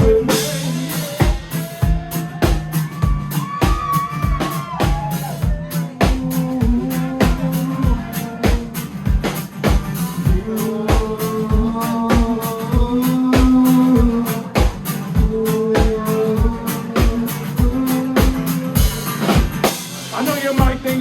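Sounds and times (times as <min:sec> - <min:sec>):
drum kit beat: 0:00.0 - 0:21.0.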